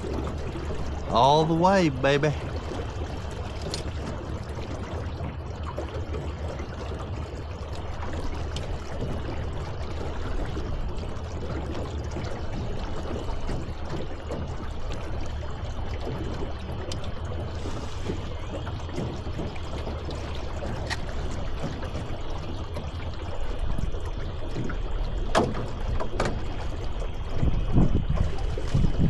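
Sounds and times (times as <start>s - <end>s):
boat motor hum: 0.0s - 29.0s
water rushing along boat hull: 0.0s - 29.0s.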